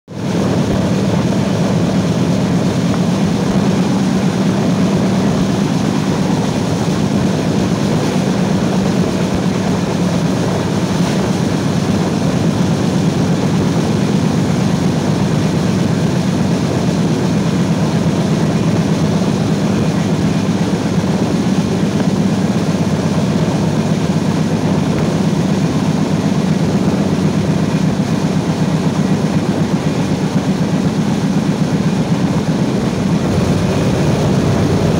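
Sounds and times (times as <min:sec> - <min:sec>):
train rushing on rails: 0:00.2 - 0:34.9.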